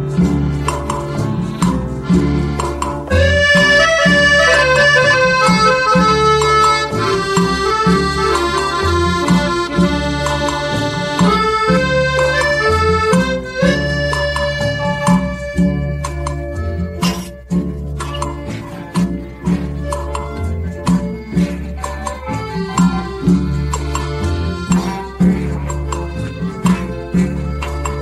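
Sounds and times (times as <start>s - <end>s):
bass and drum beat: 0.0s - 28.0s
lead melody of held notes: 0.0s - 28.0s.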